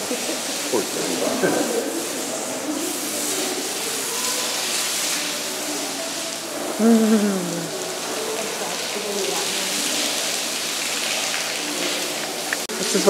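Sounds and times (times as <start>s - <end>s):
hose spraying water: 0.0s - 13.0s.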